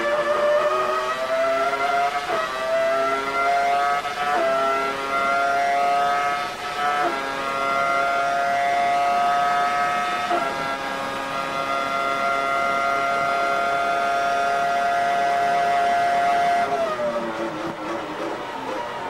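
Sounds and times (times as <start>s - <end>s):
gear upshifts: 0.0s - 19.0s
racing car engine at full throttle: 0.0s - 19.0s.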